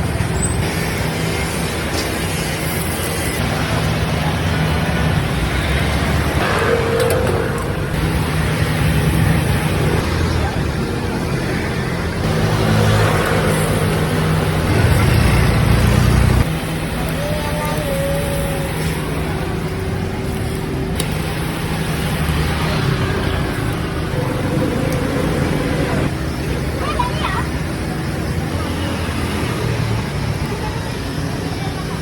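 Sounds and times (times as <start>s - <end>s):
vehicle engine humming: 0.0s - 31.9s
street traffic: 0.0s - 32.0s.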